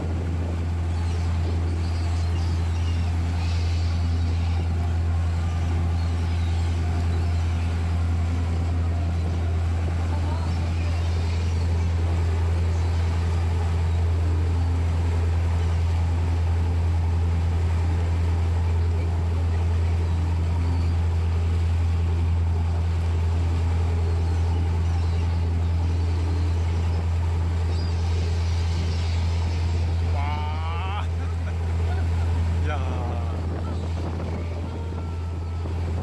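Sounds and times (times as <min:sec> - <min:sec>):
boat engine droning: 0:00.0 - 0:36.0
wake water rushing: 0:00.0 - 0:36.0.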